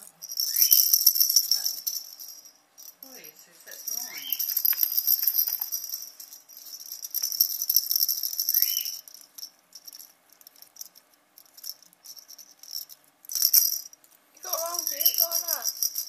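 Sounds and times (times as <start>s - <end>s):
plastic rattle toy jingling: 0.0s - 16.0s.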